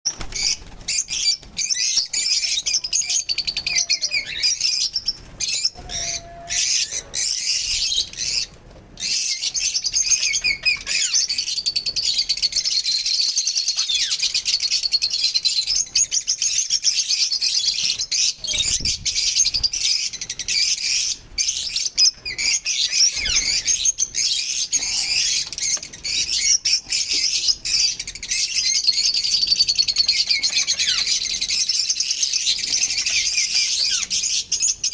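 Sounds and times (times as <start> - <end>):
lovebirds chattering: 0.1 - 34.9.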